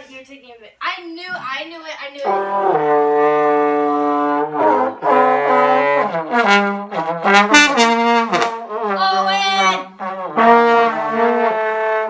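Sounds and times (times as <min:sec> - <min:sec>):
trombone playing: 0:02.2 - 0:12.0.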